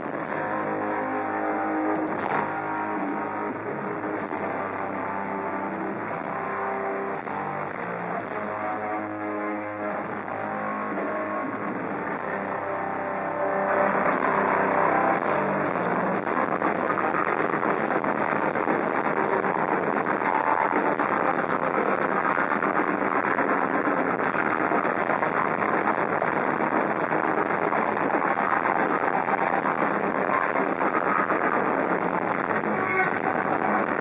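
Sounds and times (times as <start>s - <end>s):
distorted electric guitars: 0.0s - 34.0s
metal band playing live: 0.0s - 34.0s.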